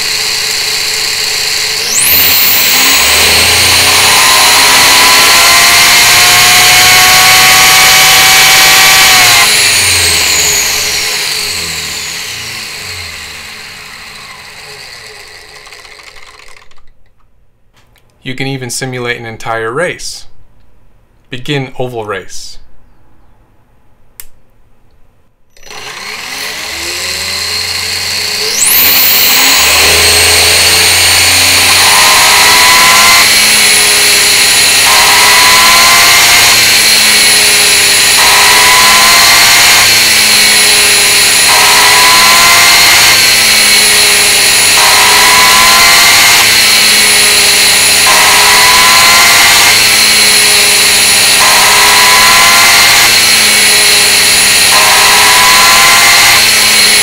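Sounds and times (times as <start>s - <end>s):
electric motor whine: 0.0s - 16.9s, 25.6s - 57.0s.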